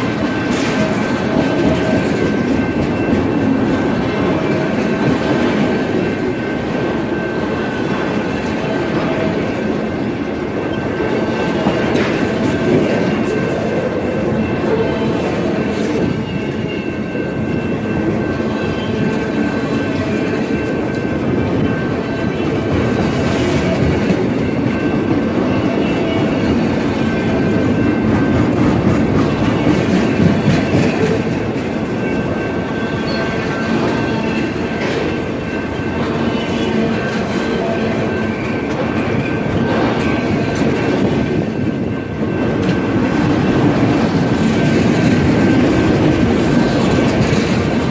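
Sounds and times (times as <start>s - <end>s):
train wheels clattering over rails: 0.0s - 47.9s.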